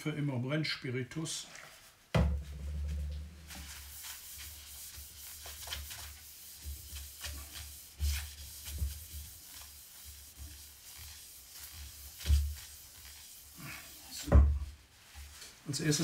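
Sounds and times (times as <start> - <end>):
cloth rubbing on plywood: 1.7 - 15.6.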